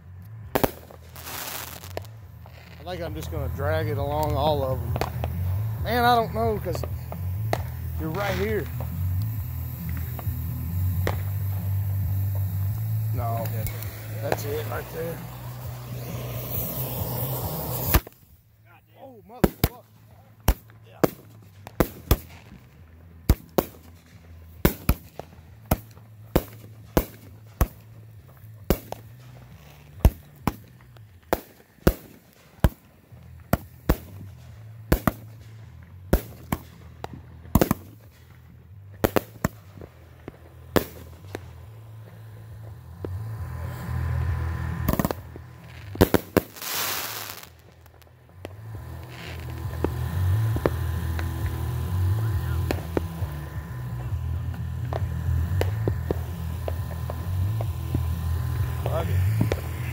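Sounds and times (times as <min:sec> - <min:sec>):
low rumbling: 0:00.0 - 0:31.9, 0:32.9 - 0:59.9
fireworks bangs: 0:00.4 - 0:18.4, 0:19.0 - 0:59.9
fireworks hissing burst: 0:00.4 - 0:59.9.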